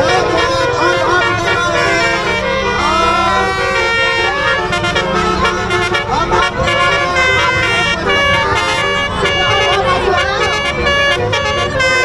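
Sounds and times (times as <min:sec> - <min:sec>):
multi-trumpet air horn melody: 0:00.0 - 0:12.0.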